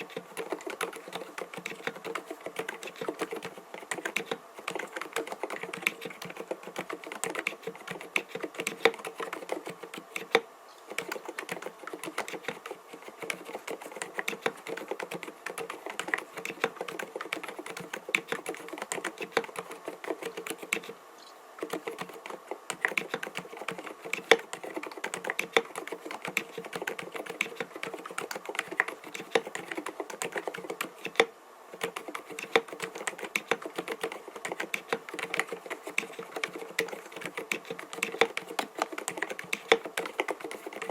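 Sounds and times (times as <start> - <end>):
soft keyboard typing: 0.0 - 21.0, 21.6 - 40.9.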